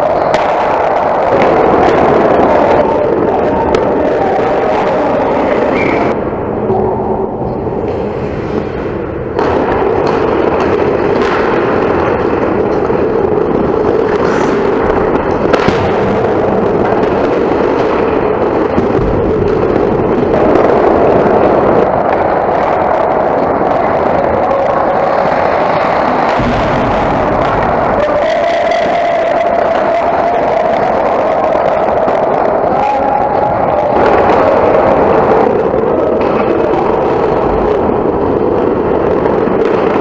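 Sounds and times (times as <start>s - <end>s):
skating and rink noise: 0.0s - 40.0s.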